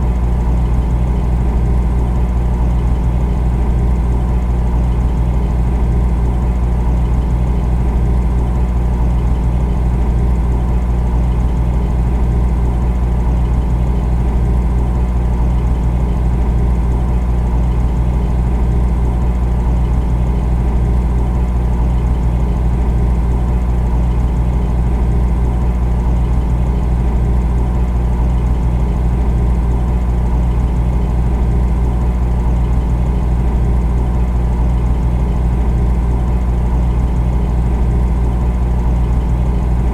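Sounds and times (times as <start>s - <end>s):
refrigerator humming: 0.0s - 39.9s.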